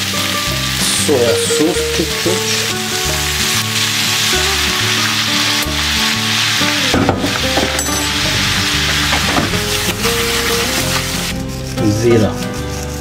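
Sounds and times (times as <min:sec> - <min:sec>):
vegetables sizzling in oil: 0:00.0 - 0:11.8
soft background music: 0:00.0 - 0:13.0
spatula stirring: 0:01.9 - 0:13.0.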